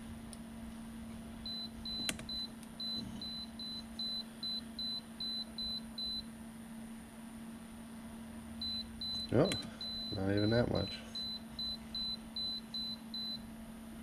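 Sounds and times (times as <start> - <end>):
cooling fan humming: 0.0 - 14.0.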